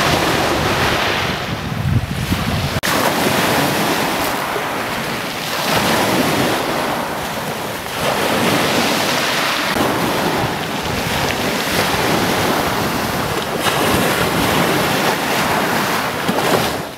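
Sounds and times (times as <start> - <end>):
sea waves rushing: 0.0 - 16.9
wind buffeting microphone: 0.0 - 16.9.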